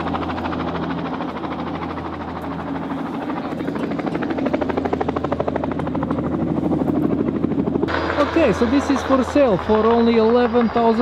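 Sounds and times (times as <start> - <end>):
aircraft engine pulsing: 0.0 - 11.0.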